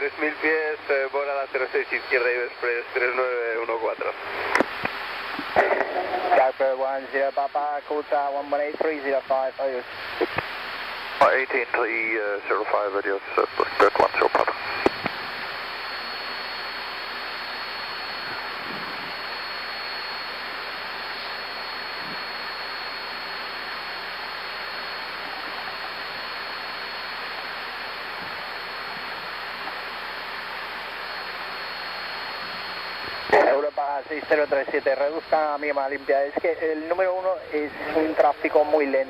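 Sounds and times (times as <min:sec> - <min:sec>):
faint high whine: 0:00.0 - 0:39.0.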